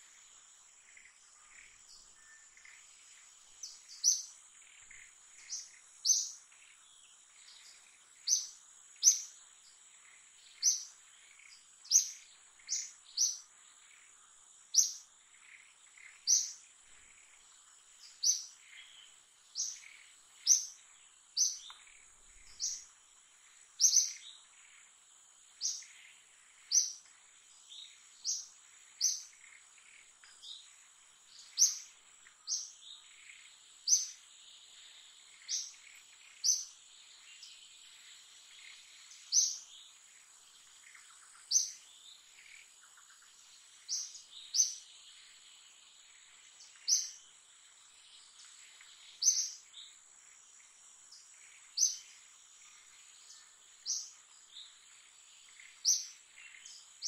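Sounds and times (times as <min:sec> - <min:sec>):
bird chirping: 0:00.8 - 0:57.0.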